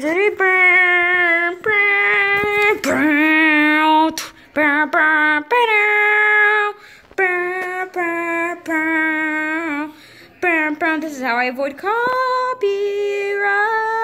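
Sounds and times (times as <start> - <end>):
person singing wordless tune: 0.0 - 14.0.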